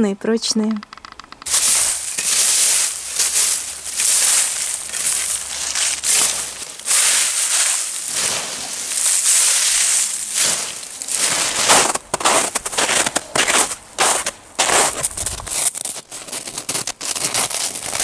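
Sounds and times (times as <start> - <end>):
dry leaves gathered by hand: 1.5 - 18.0
rake dragged through dry leaves: 1.5 - 18.0.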